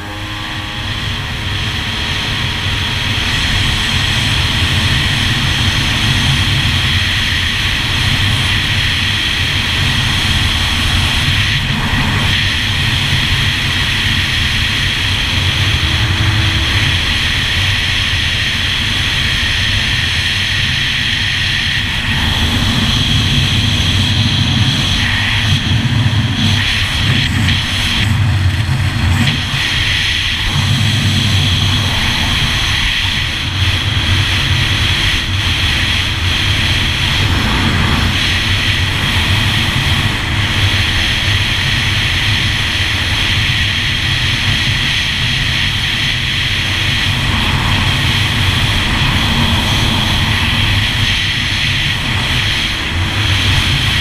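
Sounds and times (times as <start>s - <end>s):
watercraft engine running: 0.0s - 54.0s.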